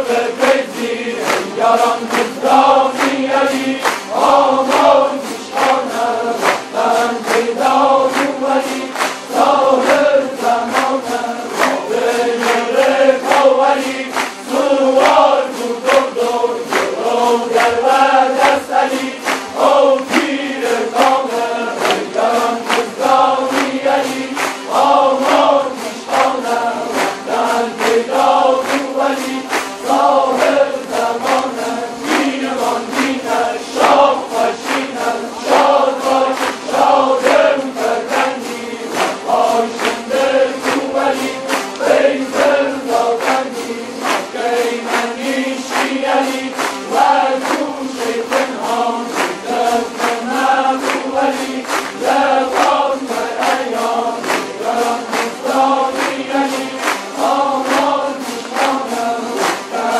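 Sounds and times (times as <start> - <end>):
group of voices chanting: 0.0 - 59.9
long-necked lutes strummed: 0.0 - 59.9.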